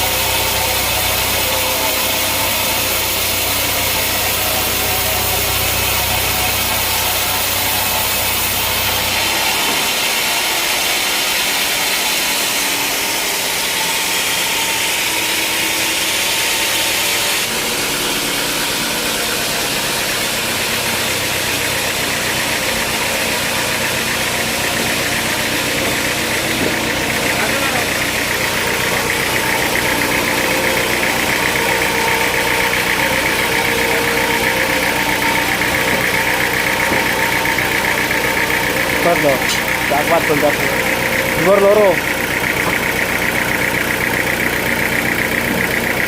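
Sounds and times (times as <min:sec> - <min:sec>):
sawmill machinery hissing: 0:00.0 - 0:46.0.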